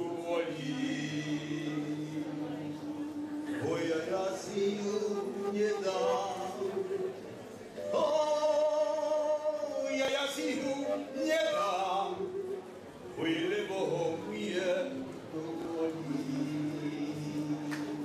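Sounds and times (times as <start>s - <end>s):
man singing unaccompanied: 0.0s - 7.2s, 7.8s - 18.0s.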